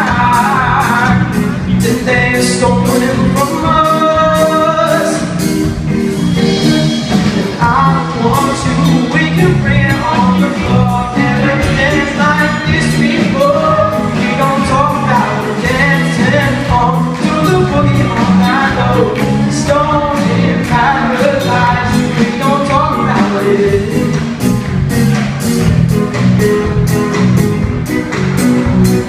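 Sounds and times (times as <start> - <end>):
live band playing folk-pop: 0.0 - 29.0.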